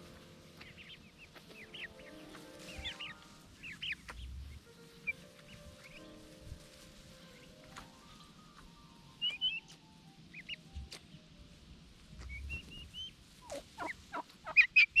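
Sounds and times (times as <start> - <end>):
poultry falling calls: 0.0 - 11.0, 12.2 - 15.0
poultry chirps: 0.0 - 15.0.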